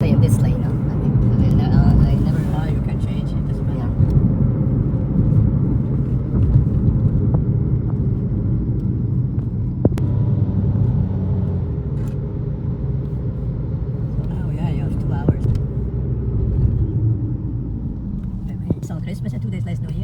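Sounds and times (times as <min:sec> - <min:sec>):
vehicle rumbling on the move: 0:00.0 - 0:20.0.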